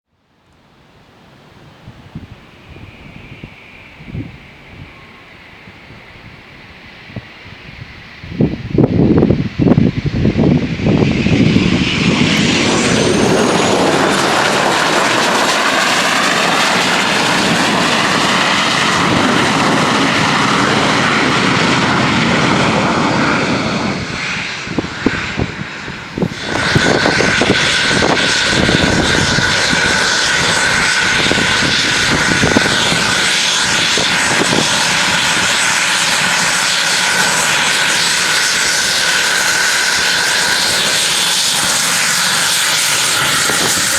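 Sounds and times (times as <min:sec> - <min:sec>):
jet engine whine: 0:00.2 - 0:43.9.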